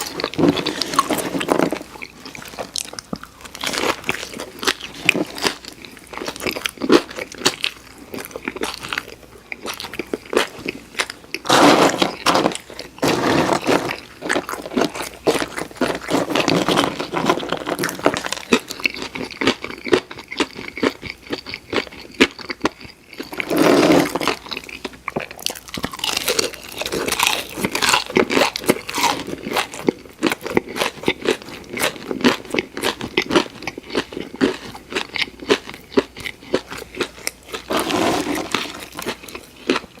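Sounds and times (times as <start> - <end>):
person chewing crispy food: 0.0 - 40.0.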